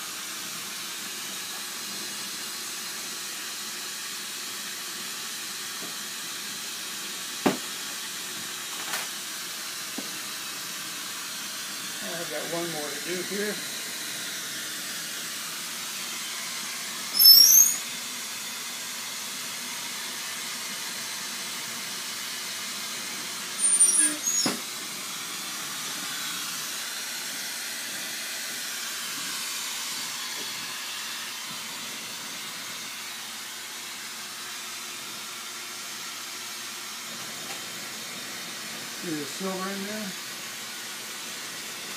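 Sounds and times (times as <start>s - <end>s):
torch flame hissing: 0.0s - 41.9s.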